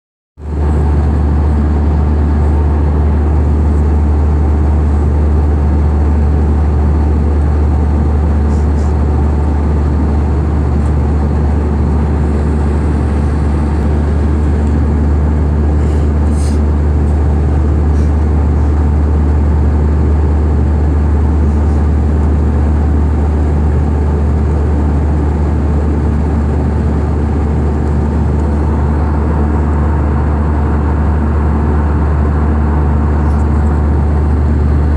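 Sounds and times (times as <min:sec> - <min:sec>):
engine low rumble: 0:00.4 - 0:34.9.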